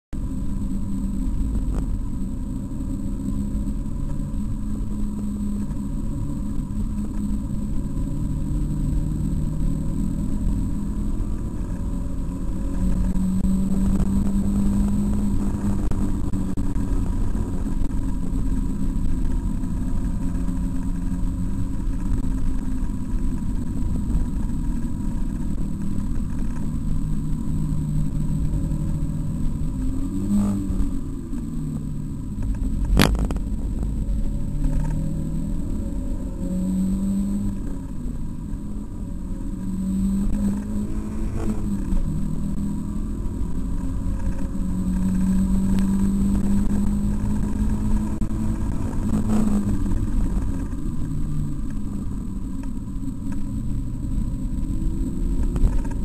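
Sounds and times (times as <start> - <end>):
road noise rumble: 0.0 - 56.0
car engine accelerating: 0.1 - 56.0.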